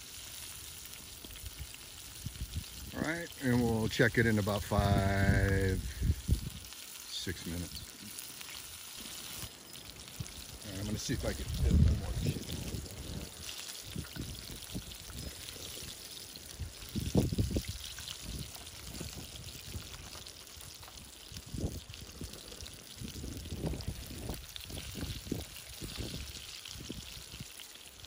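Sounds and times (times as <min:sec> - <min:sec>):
oil bubbling and sizzling: 0:00.0 - 0:28.0.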